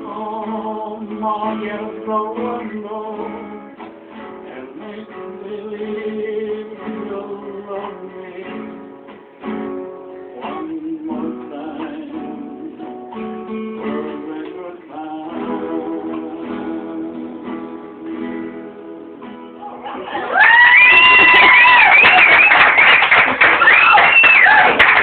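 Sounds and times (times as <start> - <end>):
acoustic guitar playing: 0.0 - 20.4.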